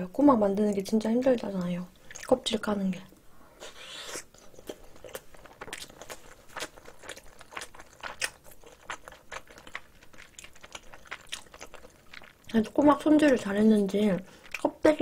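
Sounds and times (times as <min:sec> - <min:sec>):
person chewing with wet smacks: 0:01.2 - 0:02.4, 0:03.6 - 0:15.0.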